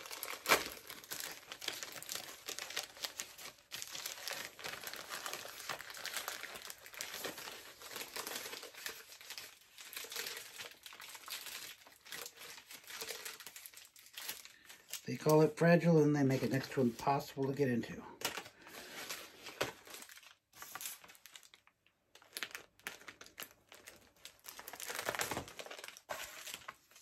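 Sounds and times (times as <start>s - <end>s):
plastic mailer crinkling and tearing: 0.0s - 27.0s.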